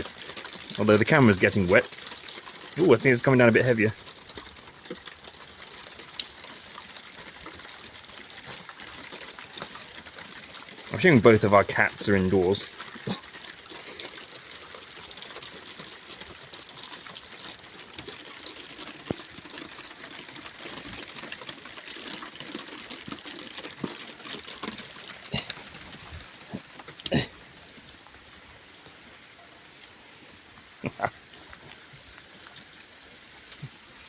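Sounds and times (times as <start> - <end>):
raindrops tapping on microphone: 0.0 - 34.0
steady rain falling: 0.0 - 34.0.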